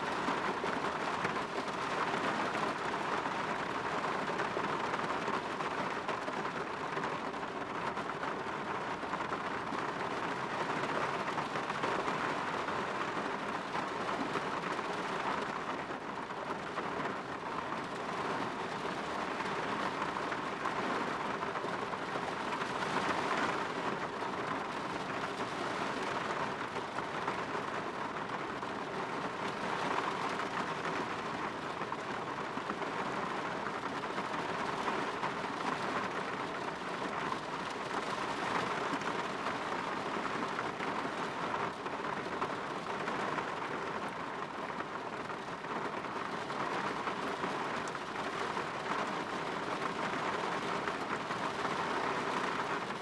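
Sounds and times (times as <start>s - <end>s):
rain on a window: 0.0s - 53.0s.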